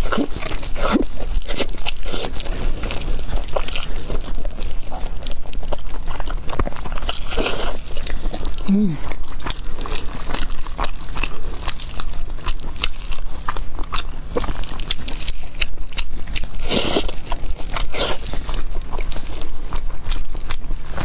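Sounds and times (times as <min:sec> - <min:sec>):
person chewing and biting food: 0:00.0 - 0:21.0.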